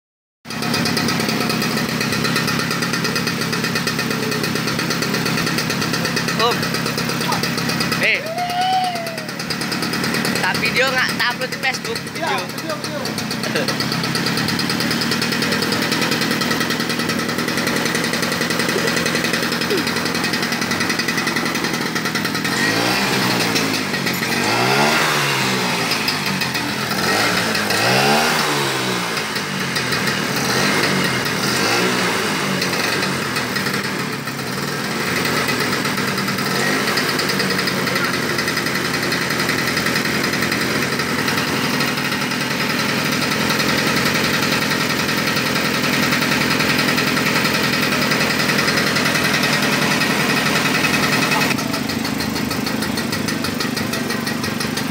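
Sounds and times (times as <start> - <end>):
scooter engine revving: 0.5 - 54.9.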